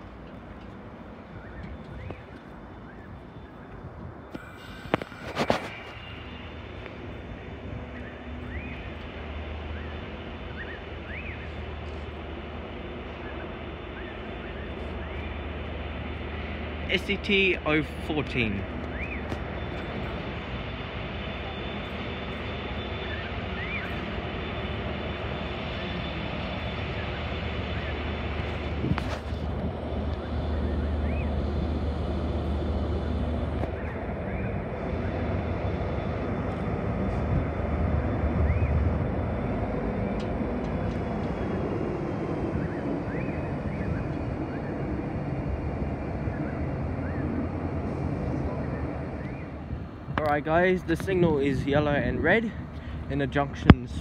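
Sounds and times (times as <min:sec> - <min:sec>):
locomotive diesel engine droning: 0:00.0 - 0:54.0.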